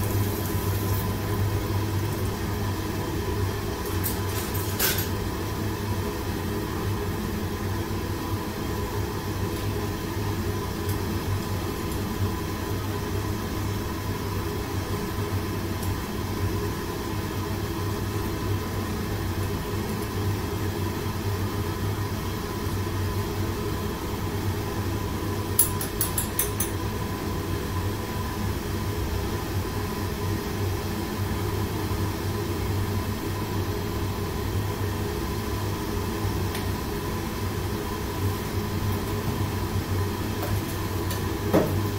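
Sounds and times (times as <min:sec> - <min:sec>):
gas burner drone: 0:00.0 - 0:41.9
ventilation fan: 0:00.0 - 0:41.9.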